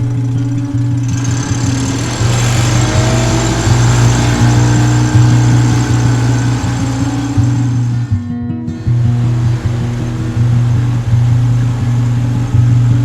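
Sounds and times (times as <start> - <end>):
outboard motor running: 0.0 - 13.0
rushing hiss: 1.1 - 8.1, 8.9 - 12.8.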